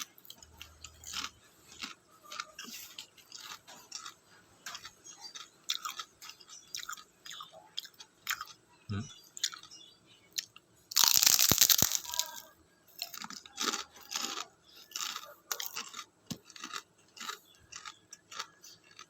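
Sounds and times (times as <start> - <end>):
crisp chewing crunches: 0.0 - 8.6, 10.4 - 19.0
crunchy pork rinds crackling: 0.0 - 8.7, 9.3 - 19.0.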